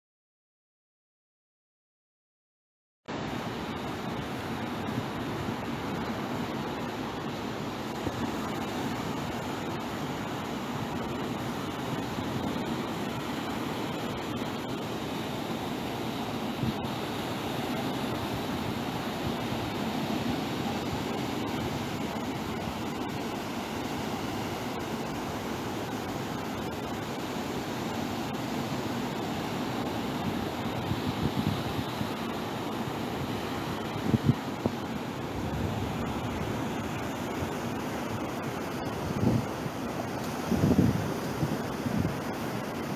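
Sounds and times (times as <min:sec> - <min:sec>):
ocean surf washing ashore: 0:03.2 - 0:42.9.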